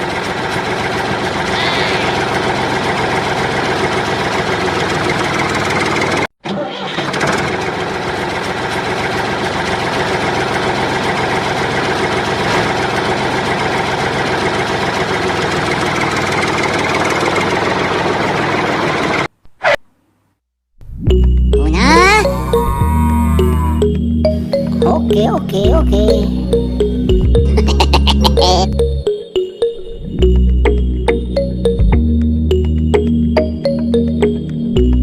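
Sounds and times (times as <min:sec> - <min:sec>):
engine running: 0:00.0 - 0:19.3, 0:21.2 - 0:35.0.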